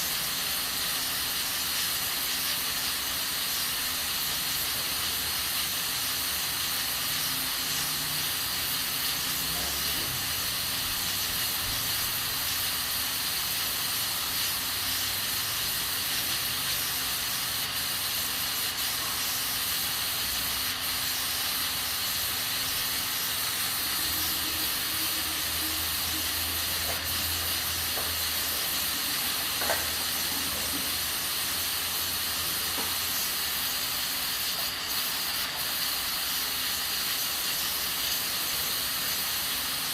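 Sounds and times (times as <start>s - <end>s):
pressure cooker hissing steam: 0.0s - 39.9s.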